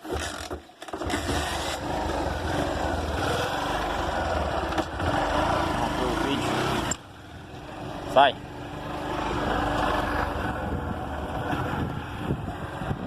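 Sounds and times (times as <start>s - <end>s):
small motorcycle engine running: 1.0s - 13.0s.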